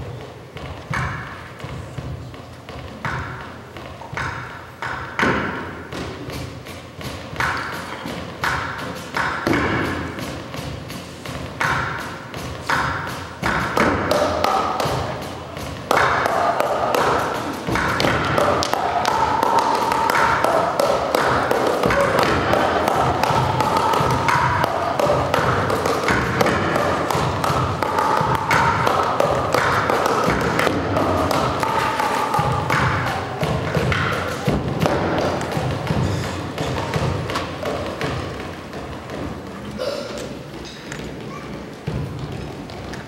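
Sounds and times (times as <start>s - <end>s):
drumming on plastic barrels: 0.0s - 43.0s.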